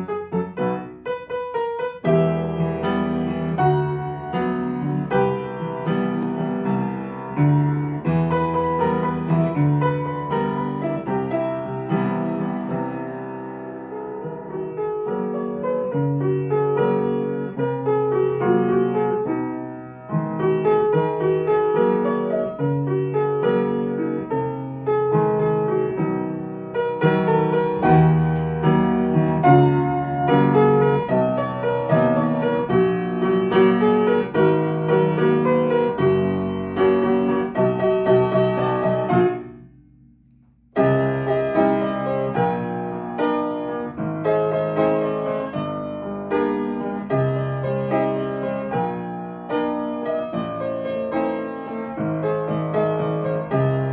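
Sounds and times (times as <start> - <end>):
piano music: 0.0 - 53.9.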